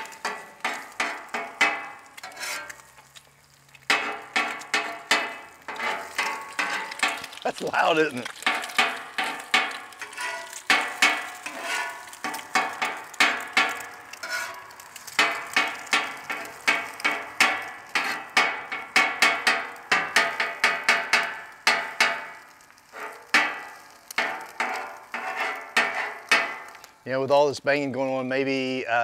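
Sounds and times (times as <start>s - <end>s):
metal spatula clanking on griddle: 0.0s - 2.8s, 3.9s - 7.4s, 8.2s - 26.7s.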